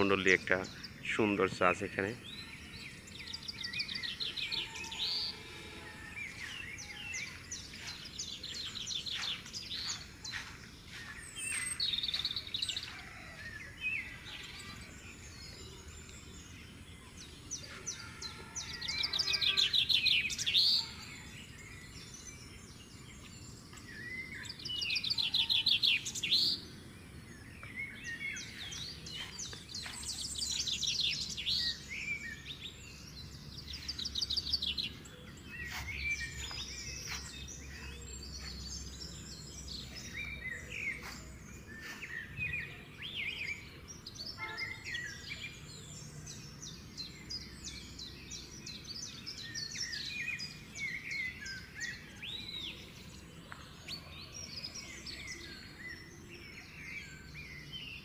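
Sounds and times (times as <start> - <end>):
faint outdoor background: 0.0 - 58.0
songbirds trilling and chirping: 0.0 - 58.0.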